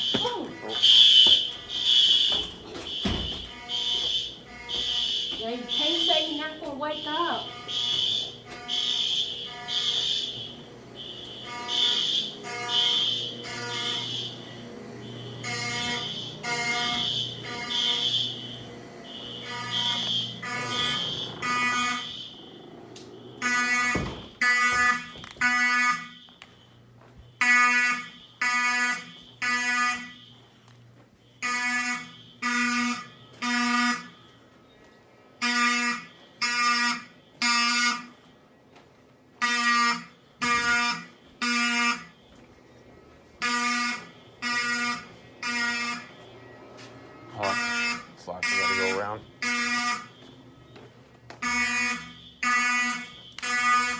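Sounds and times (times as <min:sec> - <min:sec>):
higher-pitched second alarm: 0:00.0 - 0:38.6, 0:39.3 - 0:53.9
fire alarm horn blasts: 0:00.0 - 0:53.9.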